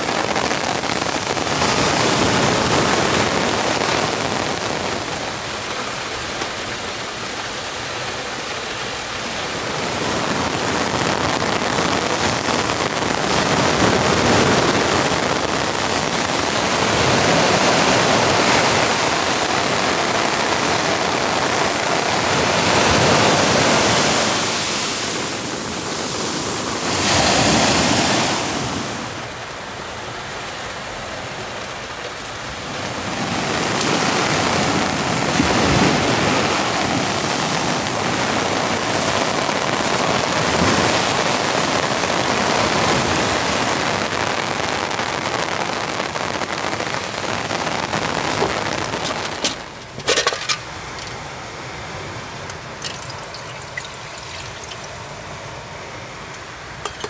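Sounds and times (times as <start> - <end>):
sea waves breaking on beach: 0.0 - 57.0.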